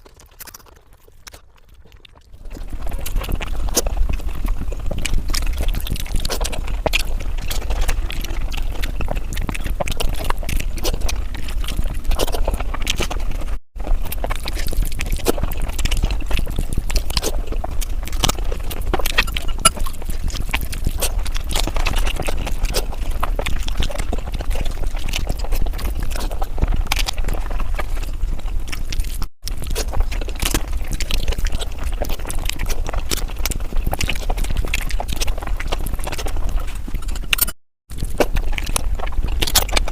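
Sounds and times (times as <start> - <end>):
chewing and wet mouth smacking: 0.0 - 39.9.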